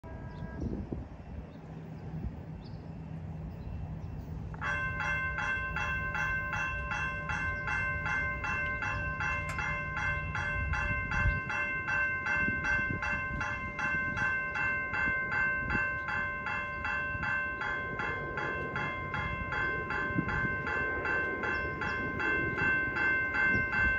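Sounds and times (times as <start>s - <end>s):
railroad crossing bell ringing: 0.0s - 0.8s, 4.1s - 23.9s.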